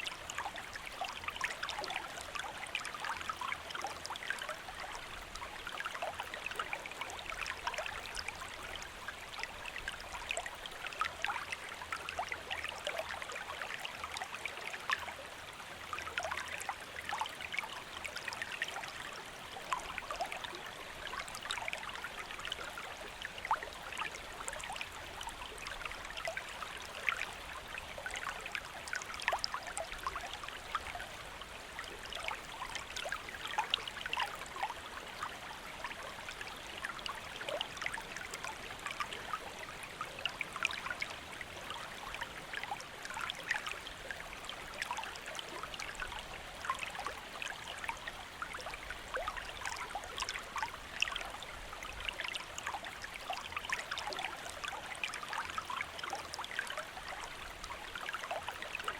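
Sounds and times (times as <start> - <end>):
stream babbling: 0.0 - 58.9.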